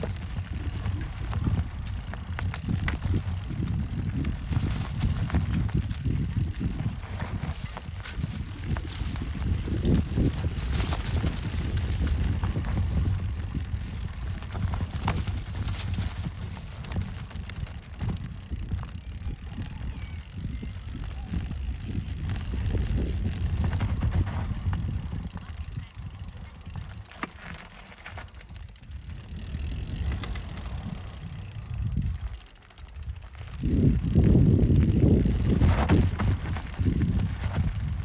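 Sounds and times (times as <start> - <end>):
bike rattling and clicking: 0.0 - 38.0
bike tyres rumbling over ground: 0.0 - 38.0.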